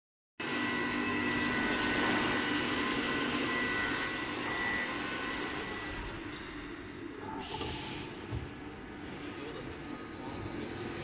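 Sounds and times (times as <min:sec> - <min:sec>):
high machine whine: 0:00.4 - 0:11.0
machine running with steady noise: 0:00.4 - 0:11.0.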